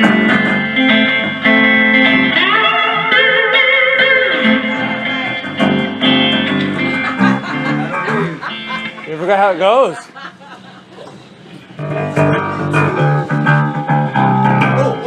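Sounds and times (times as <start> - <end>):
live band playing: 0.0 - 9.1, 11.8 - 15.0
sliding wavering guitar notes: 0.0 - 9.1, 11.1 - 15.0.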